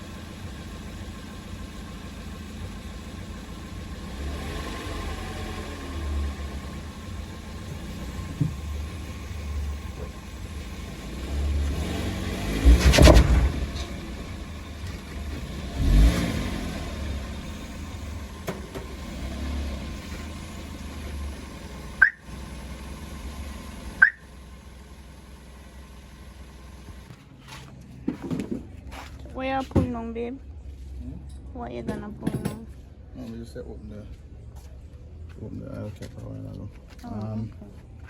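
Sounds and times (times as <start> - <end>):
car engine rumble: 0.0 - 38.0.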